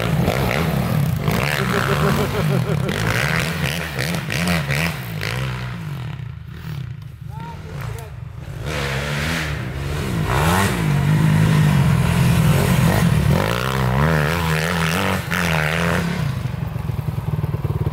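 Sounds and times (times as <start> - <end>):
dirt bike engines revving: 0.0 - 17.9.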